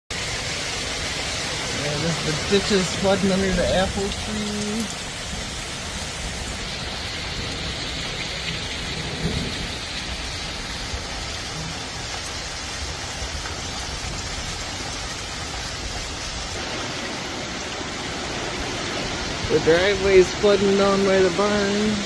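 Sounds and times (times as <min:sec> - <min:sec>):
heavy rain falling: 0:00.1 - 0:22.0.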